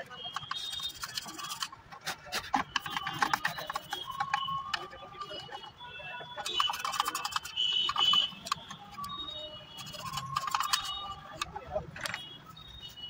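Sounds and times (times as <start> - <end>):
metal pick scraping plastic: 0.2 - 5.5, 6.4 - 9.2, 9.8 - 12.4.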